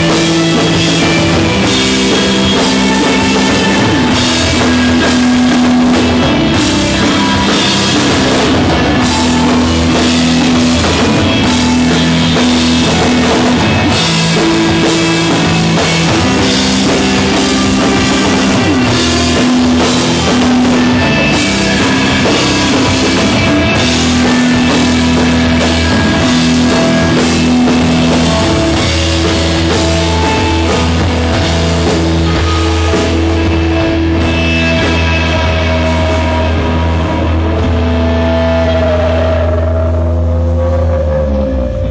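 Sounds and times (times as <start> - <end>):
drum kit with cymbal wash: 0.0 - 41.9
held bass line: 0.0 - 41.9
sustained electric guitar notes: 0.0 - 41.9.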